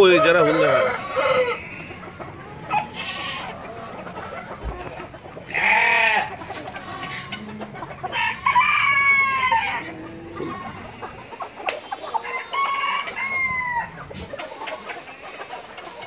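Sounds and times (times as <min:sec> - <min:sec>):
chickens clucking: 0:00.0 - 0:16.0
roosters crowing: 0:00.0 - 0:16.0.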